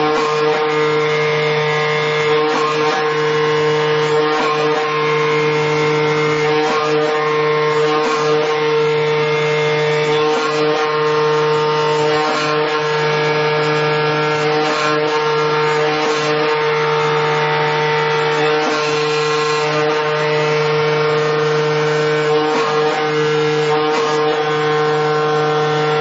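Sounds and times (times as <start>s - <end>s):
cutting machine motor hum: 0.0s - 26.0s.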